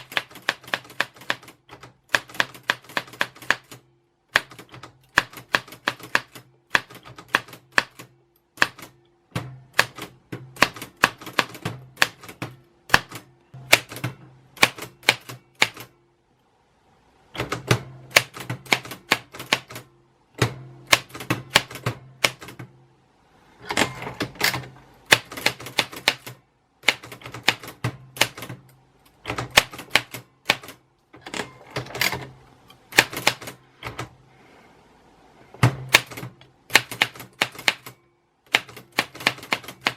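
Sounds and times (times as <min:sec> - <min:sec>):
typewriter keys clicking: 0:00.0 - 0:09.0, 0:09.7 - 0:15.9, 0:17.4 - 0:19.9, 0:20.9 - 0:22.7, 0:23.7 - 0:32.3, 0:32.9 - 0:34.1, 0:35.9 - 0:39.9.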